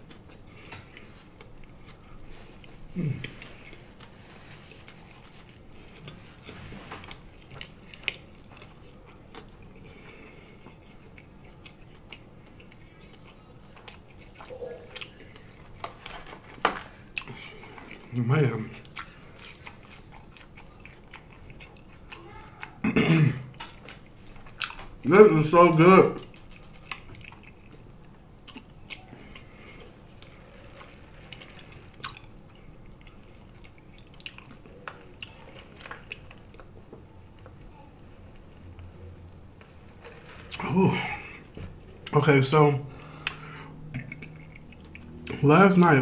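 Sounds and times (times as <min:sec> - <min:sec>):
chewing food: 0:00.0 - 0:22.8, 0:23.5 - 0:25.1, 0:26.2 - 0:38.8, 0:43.0 - 0:45.4.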